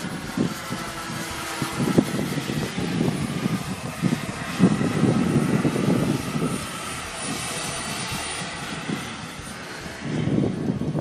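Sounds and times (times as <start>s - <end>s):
gusty low rumble: 0.0s - 11.0s
model helicopter engine and rotor: 0.0s - 11.0s.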